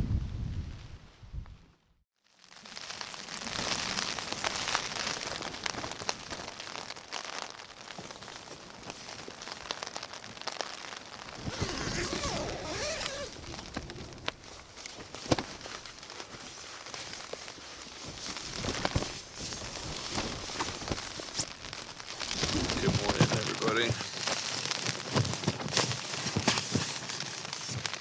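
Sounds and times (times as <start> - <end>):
rain pattering on a tent: 2.3 - 28.0.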